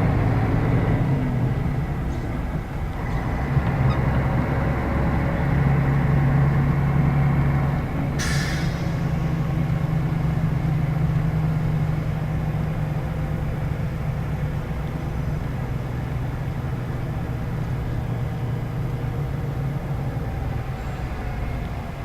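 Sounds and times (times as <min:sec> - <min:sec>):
bus diesel engine drone: 0:00.0 - 0:22.0
road noise: 0:00.0 - 0:22.0.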